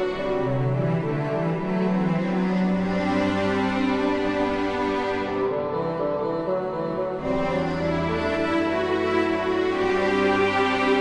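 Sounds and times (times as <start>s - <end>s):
background music with long held notes: 0.0s - 11.0s.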